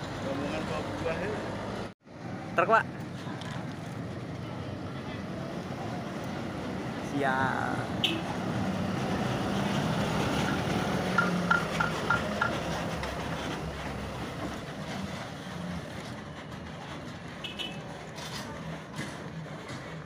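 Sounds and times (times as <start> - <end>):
truck diesel engine driving away: 0.0 - 20.0.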